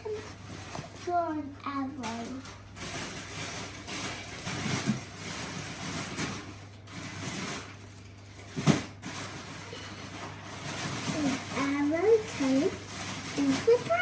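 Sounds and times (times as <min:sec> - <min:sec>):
dishwasher low hum: 0:00.0 - 0:14.0
dishwasher water swishing: 0:02.0 - 0:14.0.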